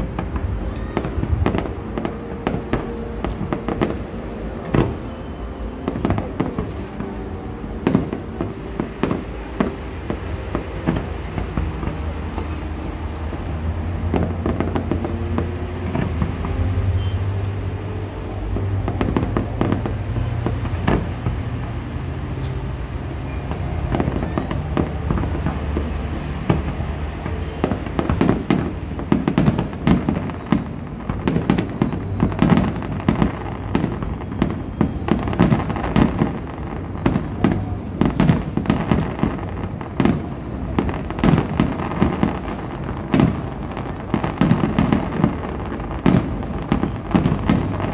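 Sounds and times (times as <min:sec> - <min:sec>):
fireworks bursting and crackling: 0:00.0 - 0:47.9.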